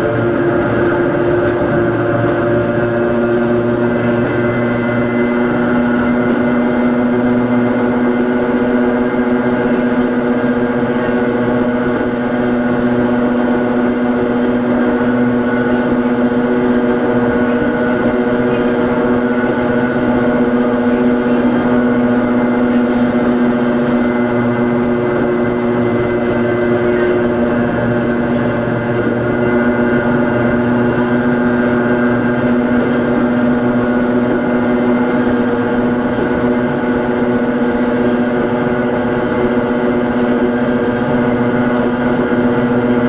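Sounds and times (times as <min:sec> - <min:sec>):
electric train motor hum and whine: 0:00.0 - 0:43.0
train running noise: 0:00.0 - 0:43.0.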